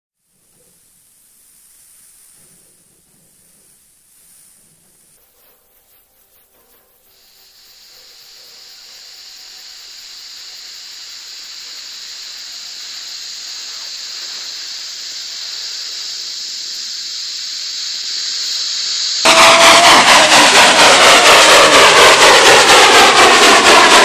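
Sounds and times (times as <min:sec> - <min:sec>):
high-pitched hiss like steam: 0:00.2 - 0:24.0.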